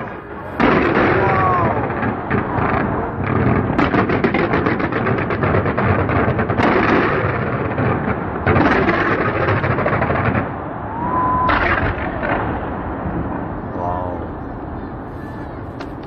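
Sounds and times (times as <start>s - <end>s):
fireworks crackle: 0.0s - 16.0s
rumble of firework bangs: 0.0s - 16.0s.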